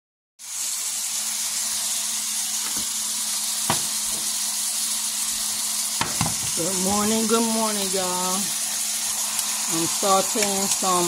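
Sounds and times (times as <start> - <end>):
meat and onions sizzling in a pan: 0.4 - 11.0.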